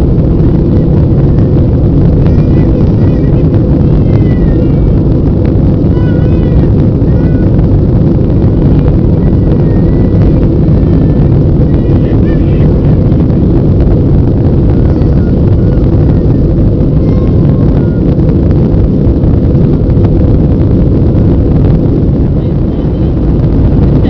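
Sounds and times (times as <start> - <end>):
jet engine roar in cabin: 0.0 - 24.0.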